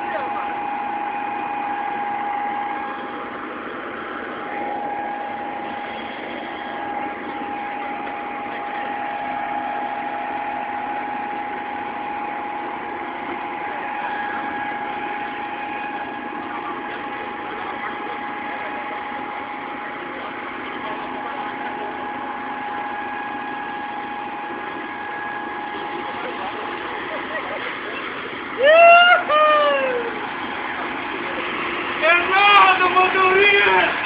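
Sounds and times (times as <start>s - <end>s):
constant high whine: 0.0s - 34.0s
engine idling: 0.0s - 34.0s.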